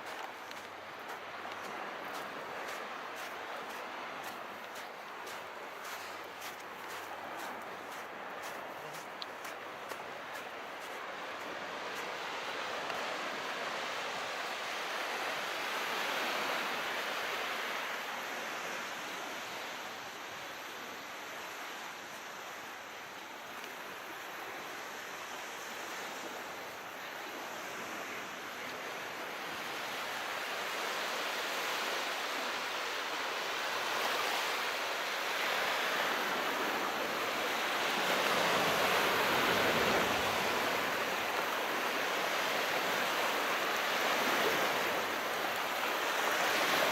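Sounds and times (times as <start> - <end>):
sea surf washing in: 0.0 - 22.3, 23.9 - 46.9.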